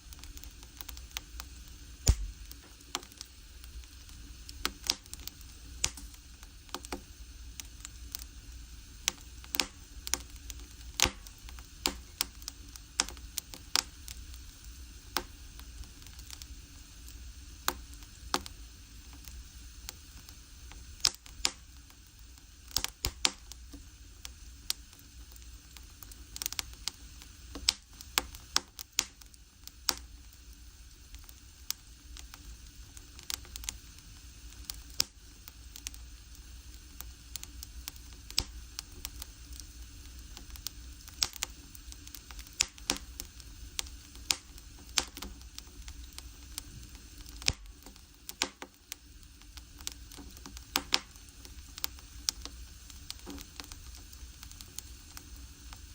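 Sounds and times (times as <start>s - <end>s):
firewood crackling and popping: 0.0s - 55.9s
low steady hiss: 0.0s - 55.9s.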